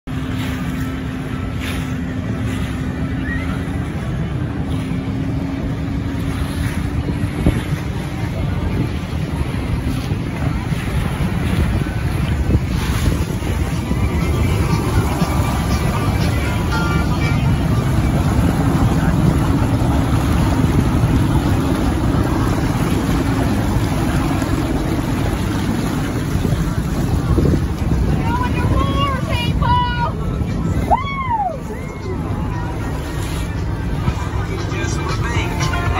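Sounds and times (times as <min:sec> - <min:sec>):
churning boat wake: 0:00.0 - 0:35.9
motorboat engine humming: 0:00.0 - 0:35.9
wind rumbling on microphone: 0:00.0 - 0:35.9.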